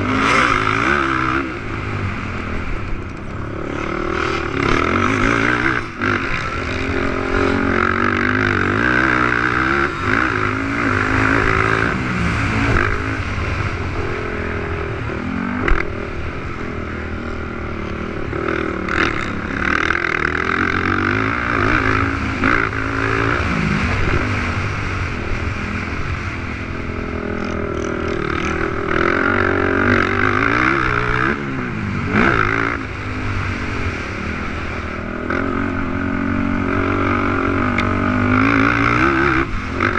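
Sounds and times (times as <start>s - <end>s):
quad engines revving: 0.0s - 16.0s, 17.1s - 25.9s, 26.6s - 39.9s.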